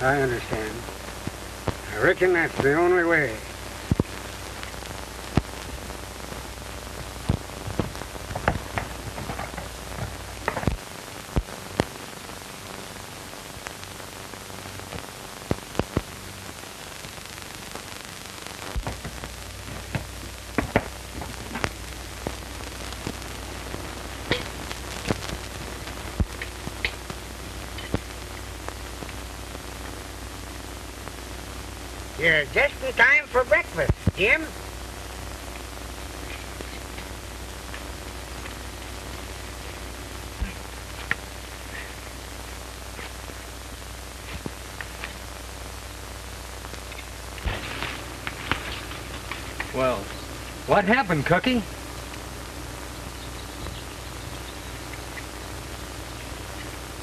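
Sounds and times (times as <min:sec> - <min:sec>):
crackles and pops: 0:00.0 - 0:57.0
film soundtrack hiss: 0:00.0 - 0:57.0.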